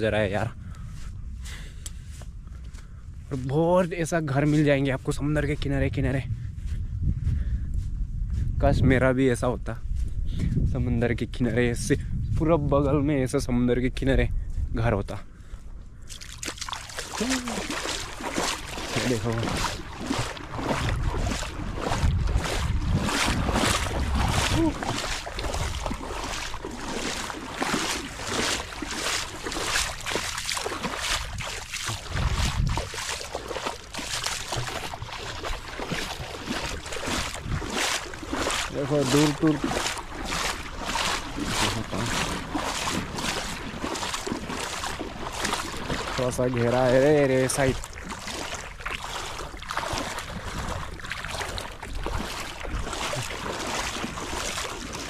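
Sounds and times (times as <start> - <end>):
footsteps on wet sand and water: 0.0 - 55.0
wind rumbling on microphone: 0.0 - 55.0.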